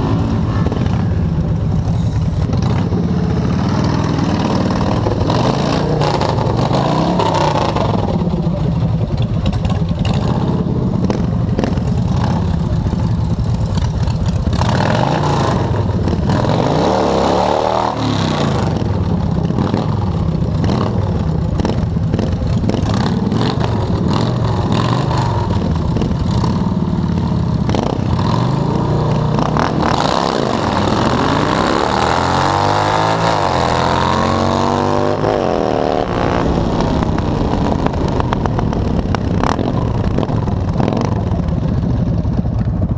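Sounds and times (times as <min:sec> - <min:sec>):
motorcycle accelerating: 0:00.0 - 0:42.9
motorcycle engines revving: 0:00.0 - 0:42.9.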